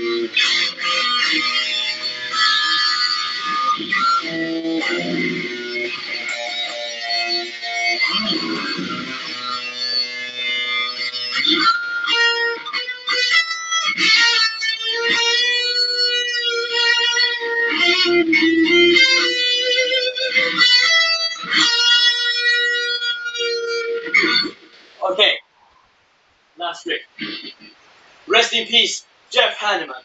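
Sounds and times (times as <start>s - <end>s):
electric guitar solo: 0.0s - 24.7s.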